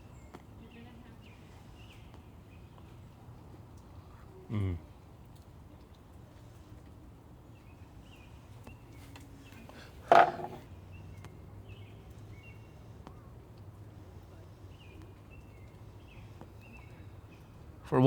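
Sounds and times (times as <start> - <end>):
songbirds chirping: 0.0 - 4.4, 5.0 - 18.0.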